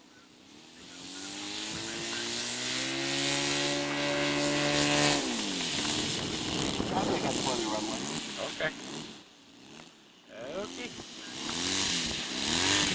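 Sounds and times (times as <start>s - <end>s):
model airplane motor and propeller: 0.0s - 12.9s.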